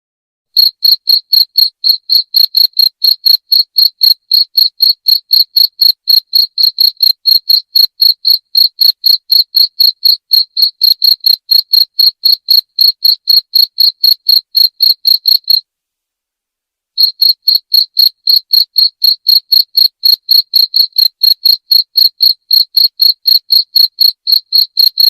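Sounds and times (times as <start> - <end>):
cricket chirping: 0.6 - 15.6, 17.0 - 25.0.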